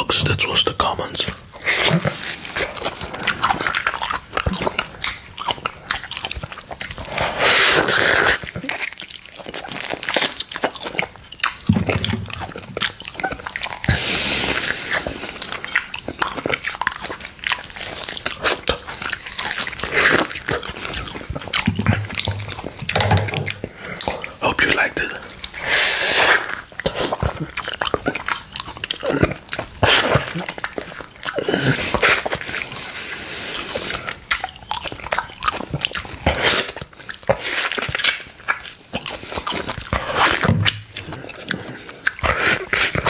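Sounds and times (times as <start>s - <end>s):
wet chewing mouth sounds: 0.0s - 43.0s.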